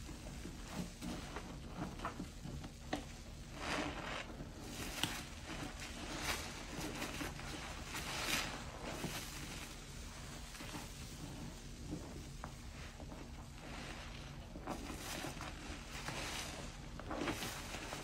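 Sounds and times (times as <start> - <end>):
sponge squelching in soapy water: 0.0 - 18.0.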